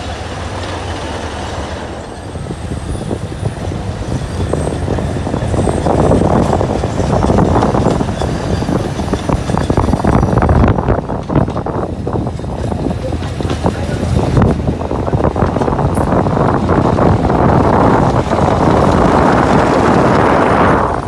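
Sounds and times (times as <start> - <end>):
train clattering on track: 0.0 - 21.0.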